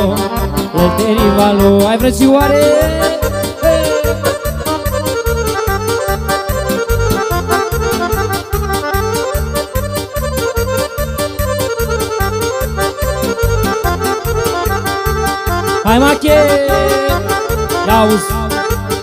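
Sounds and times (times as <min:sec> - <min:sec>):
fast bass beat: 0:00.0 - 0:18.9
accordion melody: 0:00.0 - 0:19.0
keyboard chords: 0:00.0 - 0:19.0.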